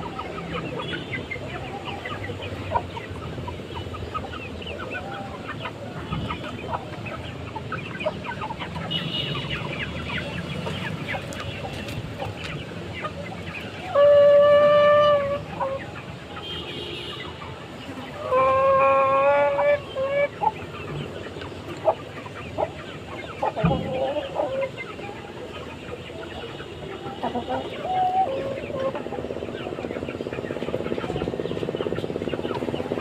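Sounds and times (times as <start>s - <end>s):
birds calling: 0.0s - 33.0s.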